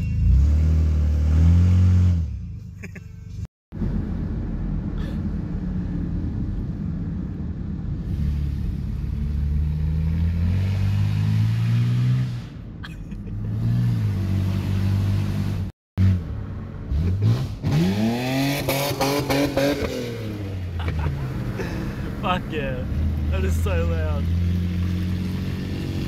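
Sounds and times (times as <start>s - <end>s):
car exhaust rumbling and revving: 0.0s - 26.0s.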